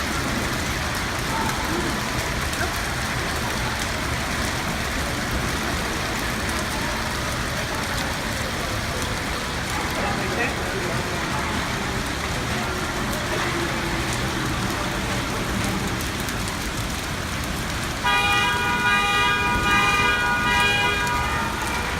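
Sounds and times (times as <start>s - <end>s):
hail and heavy rain: 0.0s - 21.9s.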